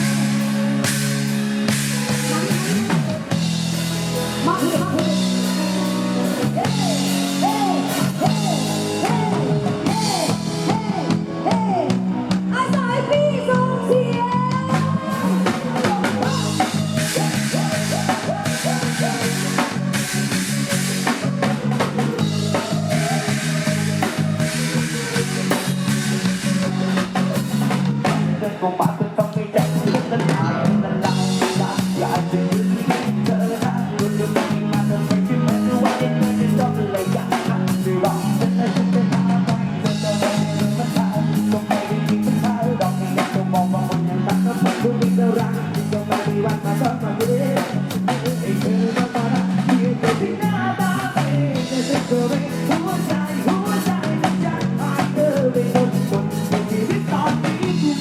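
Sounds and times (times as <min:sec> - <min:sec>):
drum kit beat: 0:00.0 - 0:58.0
heavy bass line: 0:00.0 - 0:58.0
live band music: 0:00.0 - 0:58.0.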